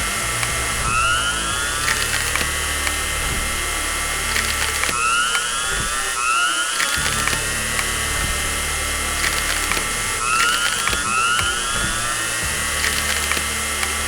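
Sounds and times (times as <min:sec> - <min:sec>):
low pulse: 0:00.0 - 0:14.0
steady held tones: 0:00.0 - 0:14.0.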